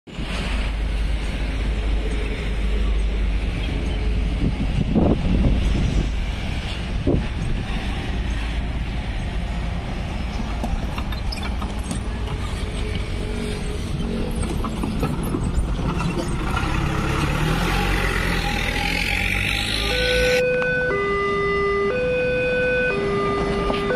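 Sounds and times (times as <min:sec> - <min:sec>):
low rumble of road noise: 0:00.1 - 0:23.9.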